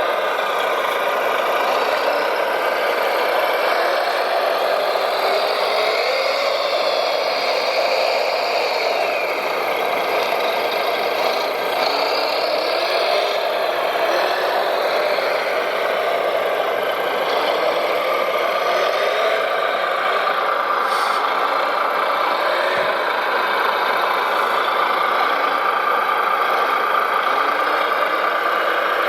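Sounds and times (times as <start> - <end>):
toy trucks mechanical whir: 0.0 - 29.0.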